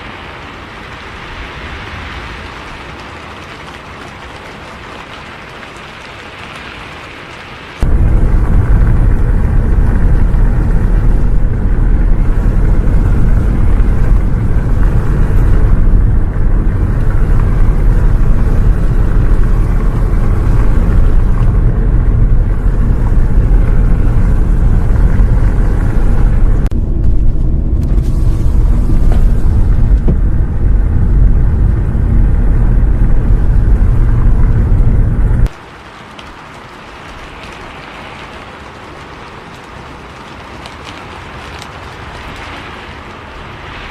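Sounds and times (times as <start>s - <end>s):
bus engine and road rumble: 0.0s - 43.9s.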